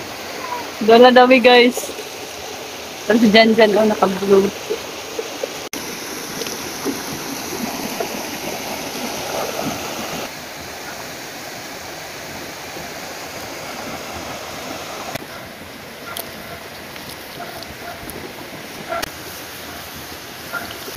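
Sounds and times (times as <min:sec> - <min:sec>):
river rushing over stones: 0:00.0 - 0:20.9.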